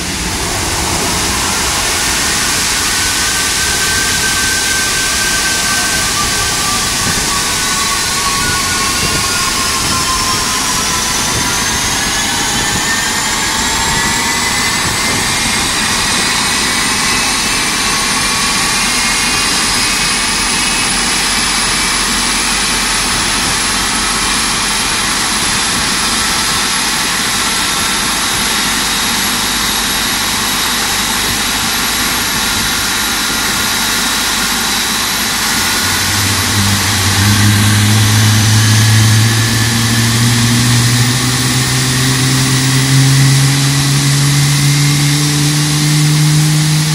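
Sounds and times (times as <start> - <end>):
jet engine rushing and whining: 0.0 - 46.9.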